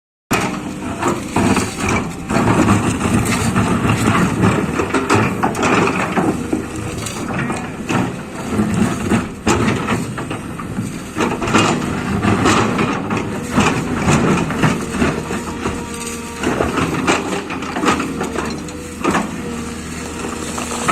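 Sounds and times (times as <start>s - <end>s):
excavator diesel engine running: 0.3s - 20.9s
metal knocks and clanks: 0.3s - 20.9s.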